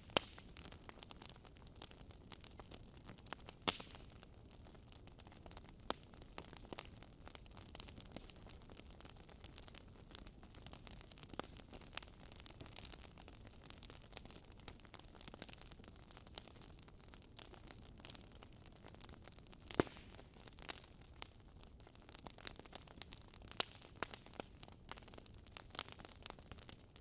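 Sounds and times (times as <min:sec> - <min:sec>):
low steady hiss: 0:00.0 - 0:27.0
wood fire crackling: 0:00.0 - 0:27.0.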